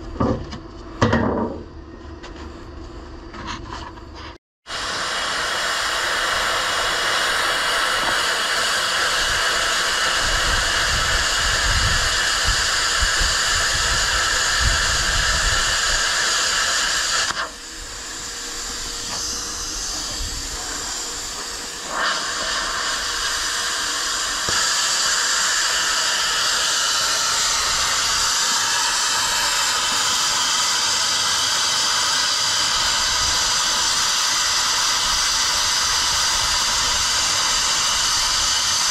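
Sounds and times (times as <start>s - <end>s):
plasma cutter hissing: 4.7s - 38.9s.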